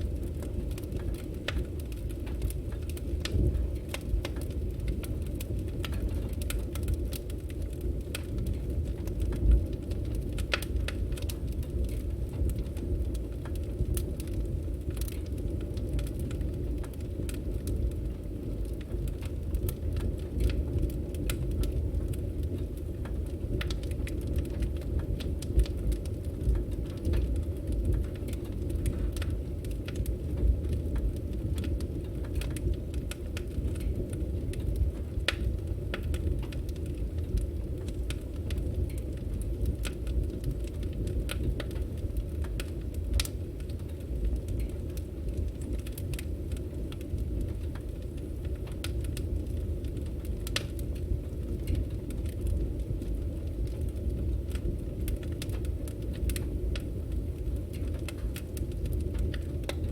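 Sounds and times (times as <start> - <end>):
firewood burning with crackles: 0.0 - 59.9.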